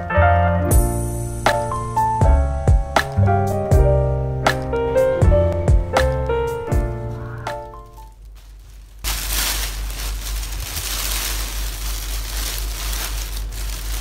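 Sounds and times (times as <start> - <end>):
piano tune: 0.0 - 14.0
steady hiss with low hum: 0.8 - 14.0.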